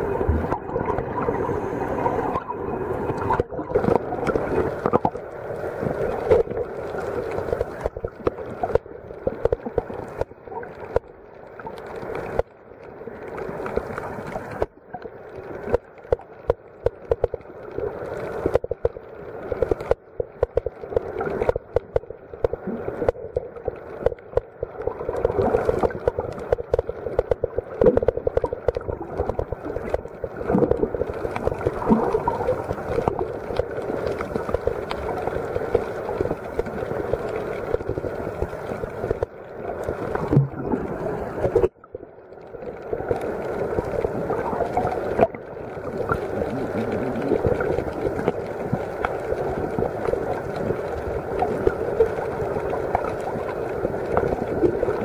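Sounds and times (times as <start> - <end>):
underwater rushing and gurgling water: 0.0 - 55.0
small crackling clicks: 2.3 - 55.0.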